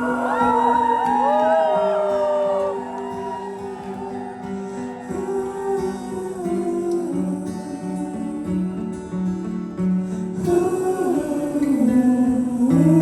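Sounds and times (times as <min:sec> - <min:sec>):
guitar playing held notes and chords: 0:00.0 - 0:13.0.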